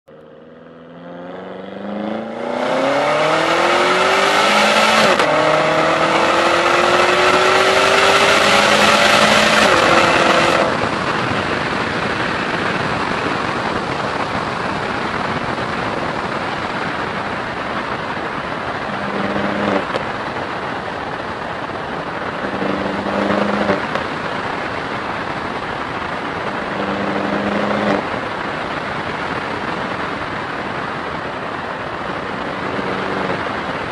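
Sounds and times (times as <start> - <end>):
car engine accelerating: 0.0 - 33.9
wind and road noise: 0.0 - 33.9.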